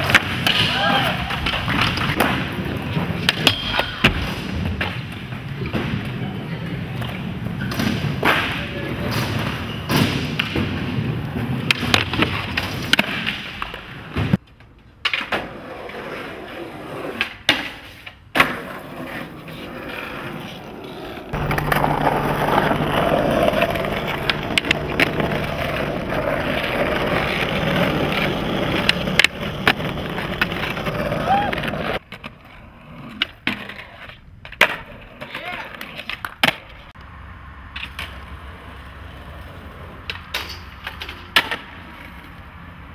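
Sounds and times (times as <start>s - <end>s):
skateboard wheels rolling: 0.0s - 37.0s, 37.7s - 42.9s.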